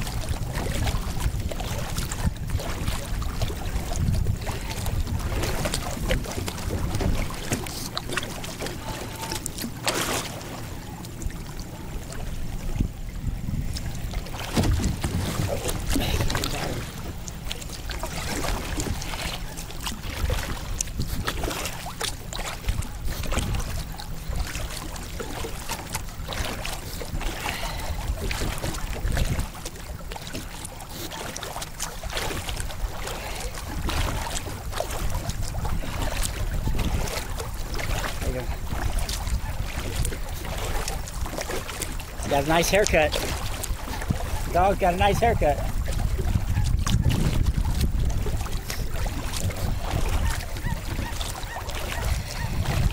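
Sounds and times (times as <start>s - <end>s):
wind rumble on microphone: 0.0s - 30.7s, 31.8s - 52.9s
kayak paddle splashing in water: 0.0s - 52.9s.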